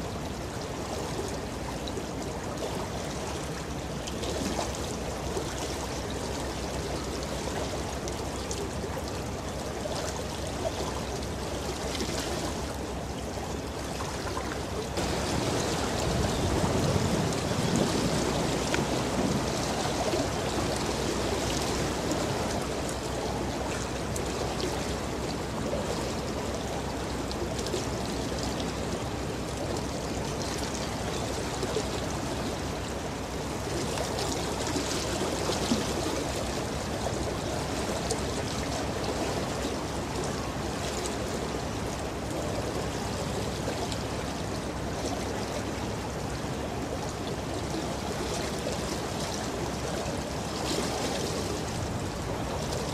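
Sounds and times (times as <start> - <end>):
ship's wake rushing water: 0.0 - 52.9.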